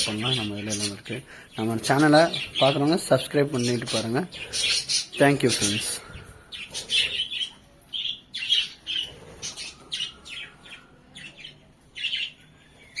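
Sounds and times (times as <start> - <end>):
caged birds chirping: 0.0 - 13.0.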